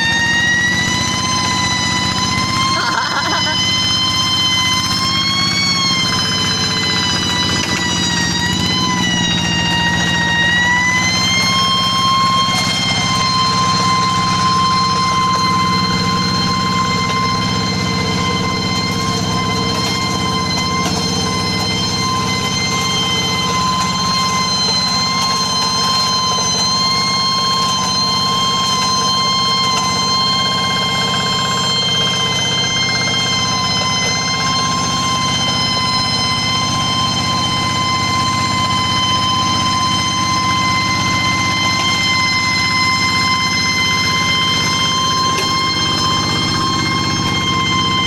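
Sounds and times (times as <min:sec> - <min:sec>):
tractor engine with high whine: 0:00.0 - 0:48.0.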